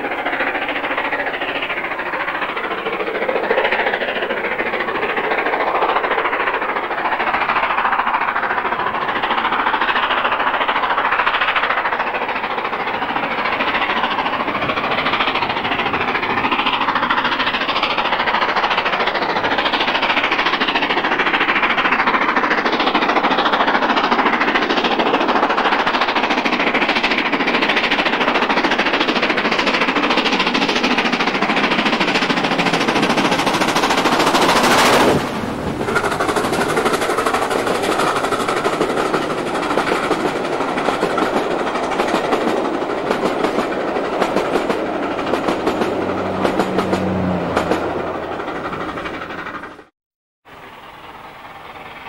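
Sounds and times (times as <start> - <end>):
steam locomotive exhaust beat: 0.0 - 49.9
train coaches clickety-clack: 0.0 - 49.9, 50.5 - 52.0.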